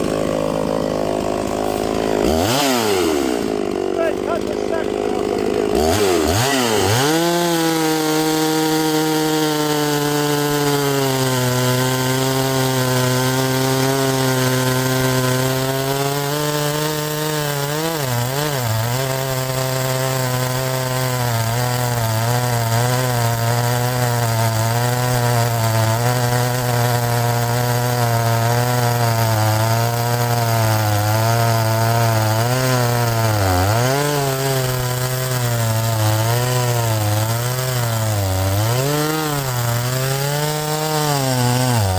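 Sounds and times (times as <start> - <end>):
chainsaw cutting through a log: 0.0 - 41.9.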